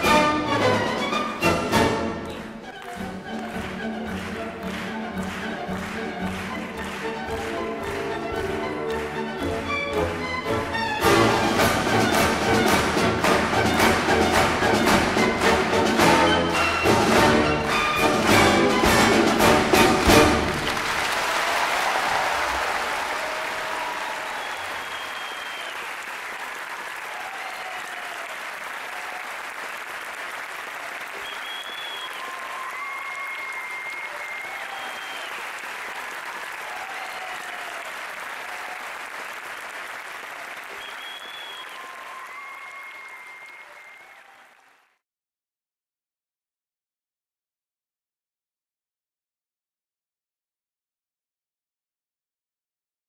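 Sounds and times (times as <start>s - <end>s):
audience applauding: 0.0s - 45.0s.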